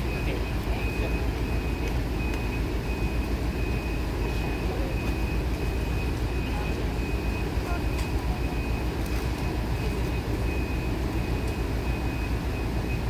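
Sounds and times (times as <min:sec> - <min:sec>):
heavy vehicle engine rumbling: 0:00.0 - 0:13.0
reversing alarm beeping: 0:00.0 - 0:13.0.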